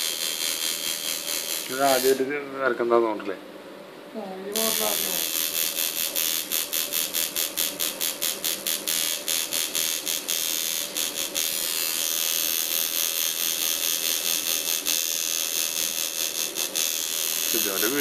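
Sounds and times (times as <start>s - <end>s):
tattoo machine buzzing: 0.0s - 2.5s, 4.5s - 18.0s.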